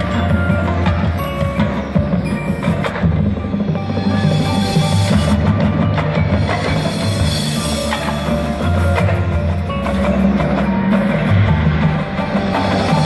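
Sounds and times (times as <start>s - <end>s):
crisp percussion strikes: 0.0s - 13.0s
marching band low notes: 0.0s - 13.0s
ringing mallet percussion: 0.0s - 13.0s.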